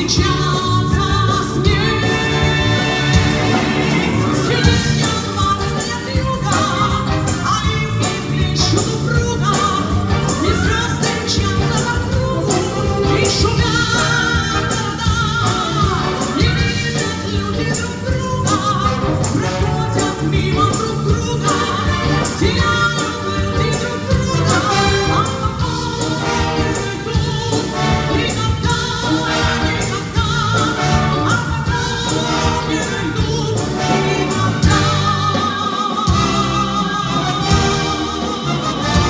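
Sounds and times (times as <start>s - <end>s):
woman singing with vibrato: 0.0s - 39.0s
wind orchestra playing: 1.5s - 39.0s.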